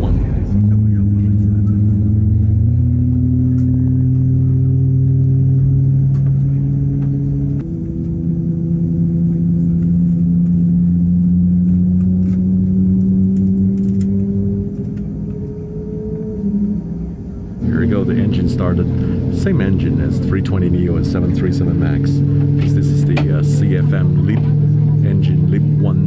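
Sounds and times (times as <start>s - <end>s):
airliner cabin drone: 0.0s - 26.0s
jet engine starting hum: 0.0s - 26.0s.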